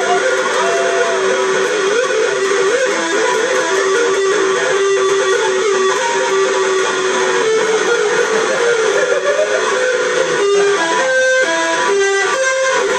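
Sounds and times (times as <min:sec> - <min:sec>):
electric ukulele playing: 0:00.0 - 0:12.9.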